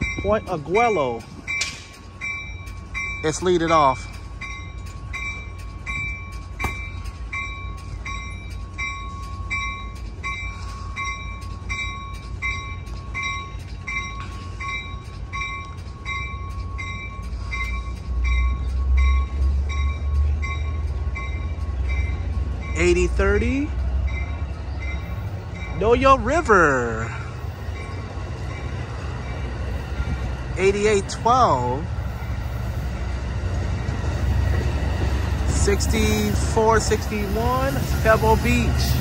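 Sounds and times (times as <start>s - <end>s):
train bell ringing: 0.0s - 39.0s
train cars rumbling past: 0.0s - 39.0s.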